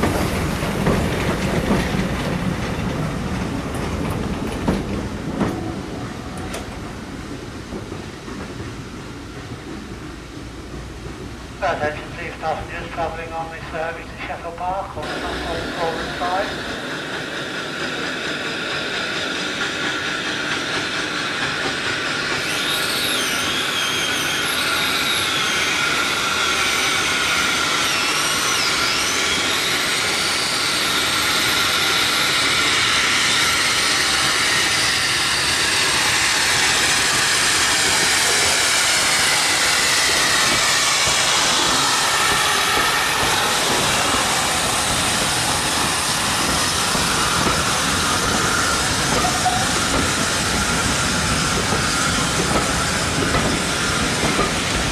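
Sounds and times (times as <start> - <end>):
train wheels clicking over joints: 0.0 - 13.1, 15.0 - 23.5, 26.2 - 54.9
steam hissing: 6.9 - 54.9.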